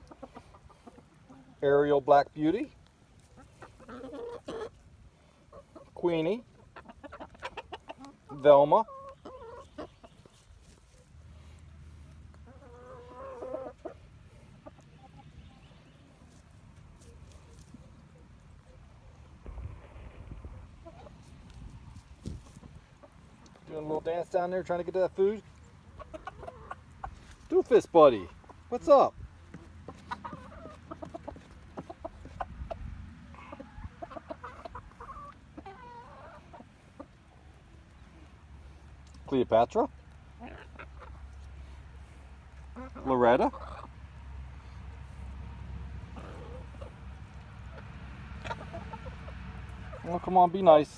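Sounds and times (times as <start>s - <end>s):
hens clucking: 0.0s - 50.9s.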